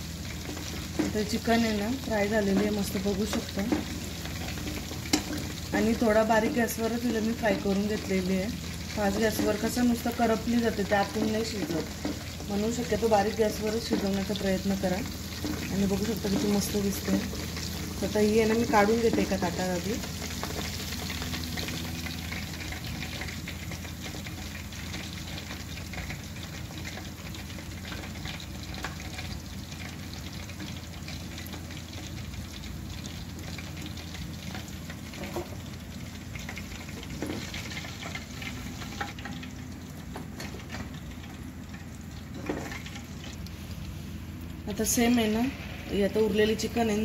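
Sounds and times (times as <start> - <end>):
chicken frying in oil: 0.0 - 47.0.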